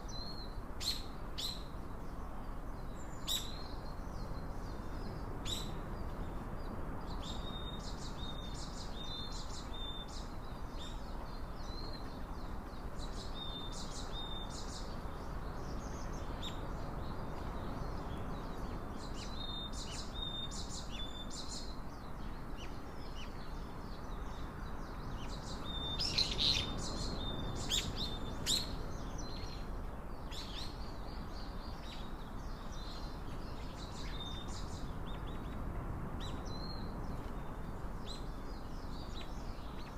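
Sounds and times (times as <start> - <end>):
low background hiss: 0.0 - 39.9
small songbirds chirping: 0.0 - 39.9.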